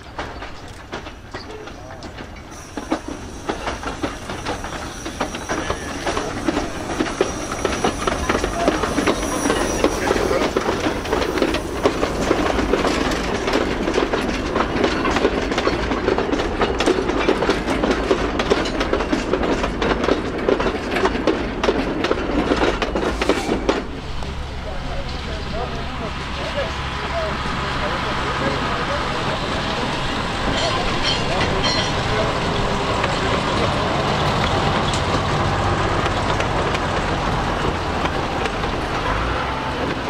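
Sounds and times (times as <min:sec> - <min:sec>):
train wheels rumbling and clattering: 0:00.0 - 0:40.0.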